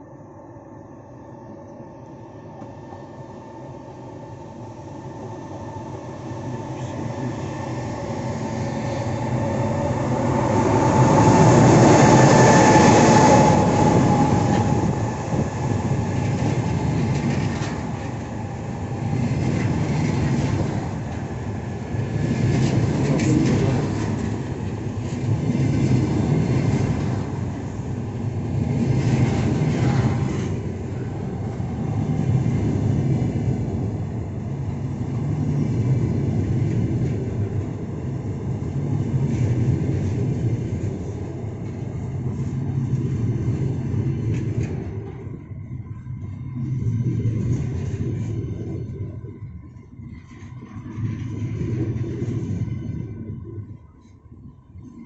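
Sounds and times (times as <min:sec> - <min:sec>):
electric locomotive passing: 0:00.0 - 0:55.0
faint locomotive whine: 0:00.0 - 0:55.0.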